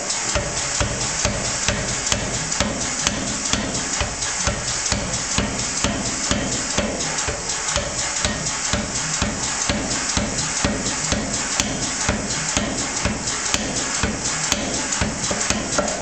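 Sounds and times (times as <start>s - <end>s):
power hammer striking hot iron: 0.0s - 16.0s.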